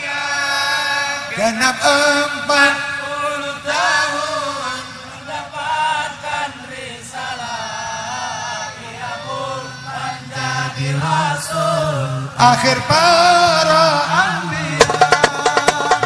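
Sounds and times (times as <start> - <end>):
men singing devotional song: 0.0 - 16.0.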